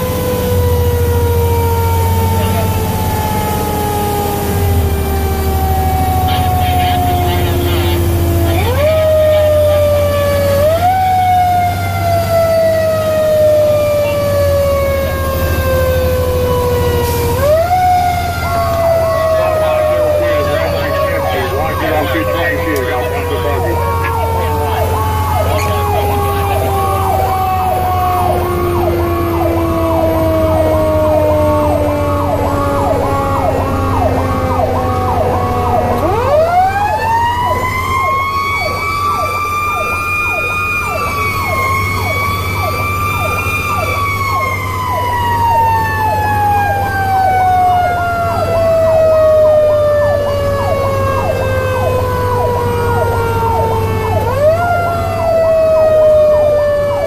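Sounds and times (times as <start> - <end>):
rapid cycling siren: 0.0 - 57.0
truck engine drone: 0.0 - 57.0
wailing siren rising and falling: 0.0 - 57.0.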